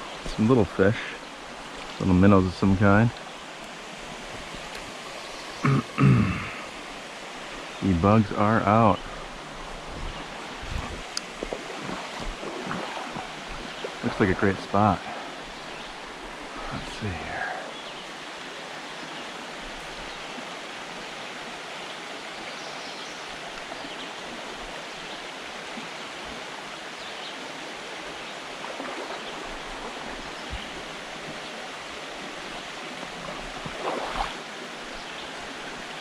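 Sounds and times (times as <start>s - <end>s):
stream running over rocks: 0.0s - 36.0s.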